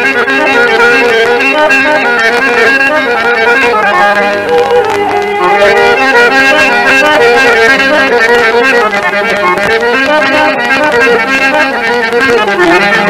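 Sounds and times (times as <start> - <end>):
instrumental ensemble melody: 0.0 - 13.0.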